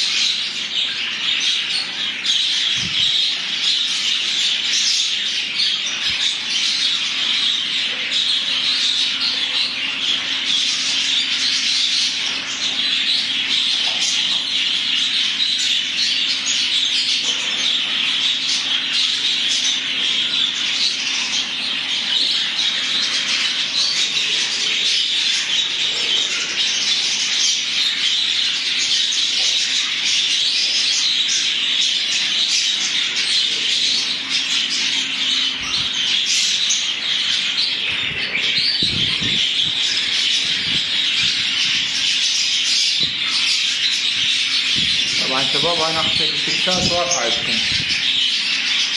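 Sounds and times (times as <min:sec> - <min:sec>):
budgerigars chattering: 0:00.0 - 0:48.9.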